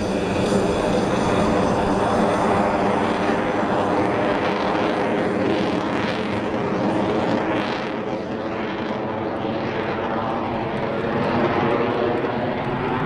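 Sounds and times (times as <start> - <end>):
jet roaring overhead: 0.0 - 13.0.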